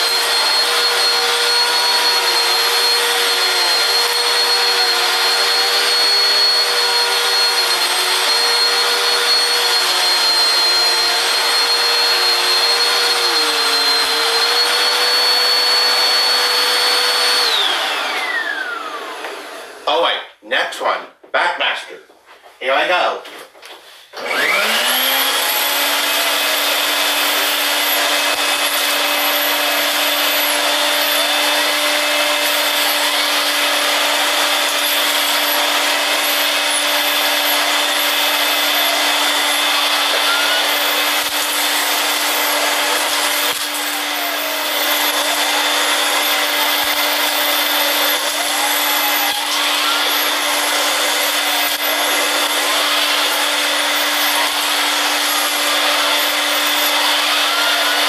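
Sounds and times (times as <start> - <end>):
vacuum cleaner motor hum and whine: 0.0 - 19.8, 24.2 - 58.0.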